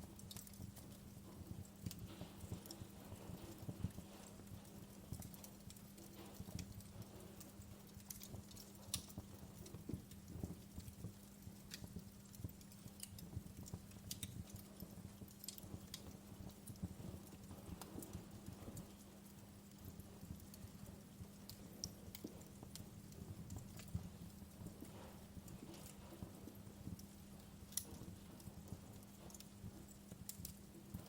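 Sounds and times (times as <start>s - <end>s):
sharp pops and snaps of fire: 0.0s - 31.0s
wood fire crackling: 0.0s - 31.0s.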